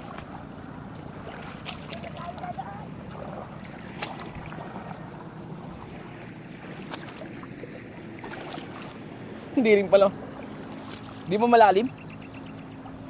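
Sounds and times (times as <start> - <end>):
river water rushing: 0.0 - 11.9.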